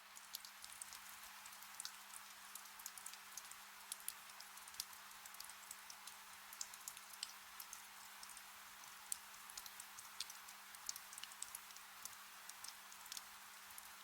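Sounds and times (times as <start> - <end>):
gentle rain in a forest: 0.0 - 14.0
raindrop ticks: 0.2 - 14.0.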